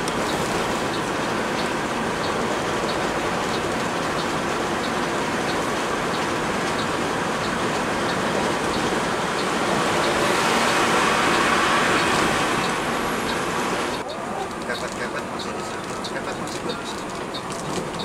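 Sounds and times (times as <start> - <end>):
coach rushing on road: 0.0 - 18.0
faint ticking: 0.0 - 18.0.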